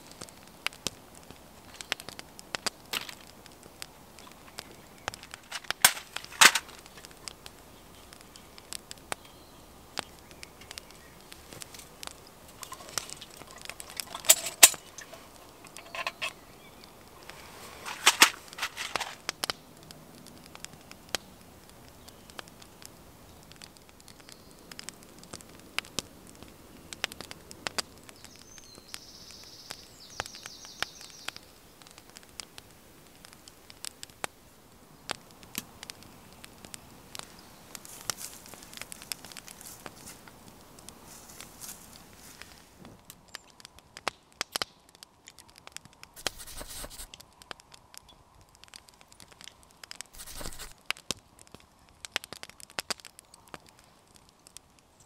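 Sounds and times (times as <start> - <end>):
fire pops and snaps: 0.0 - 55.0
wood fire crackling: 0.0 - 55.0.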